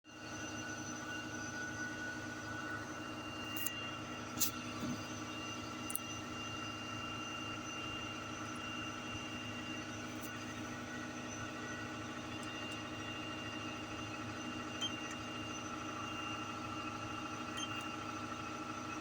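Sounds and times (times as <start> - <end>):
excavator engine hum: 0.1 - 19.0.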